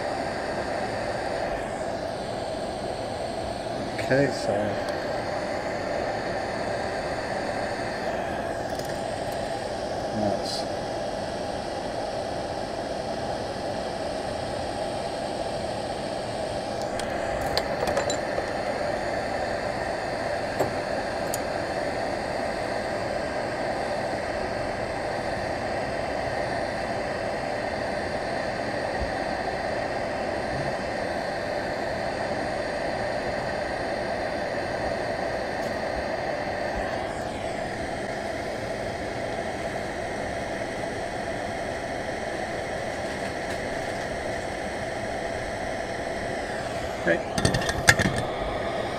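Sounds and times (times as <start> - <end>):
hot air station blowing: 0.0 - 48.9.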